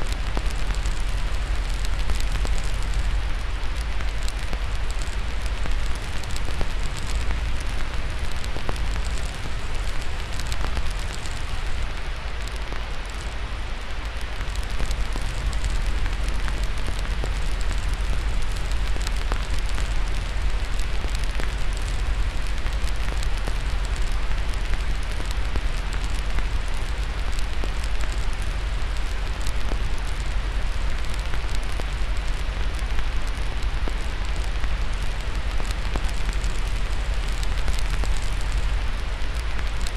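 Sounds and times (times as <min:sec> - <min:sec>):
white-noise hiss: 0:00.0 - 0:39.9
wood fire crackling: 0:00.0 - 0:39.9.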